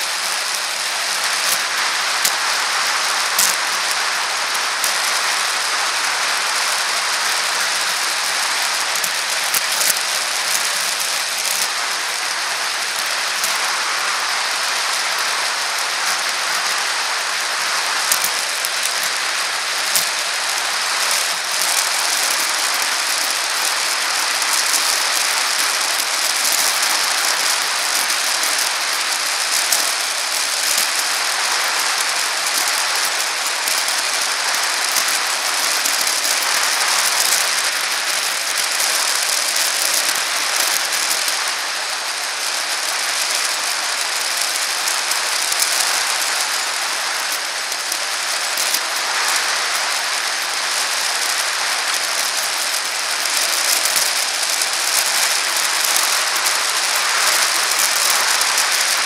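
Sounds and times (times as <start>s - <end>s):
bicycle rolling on asphalt: 0.0s - 59.0s.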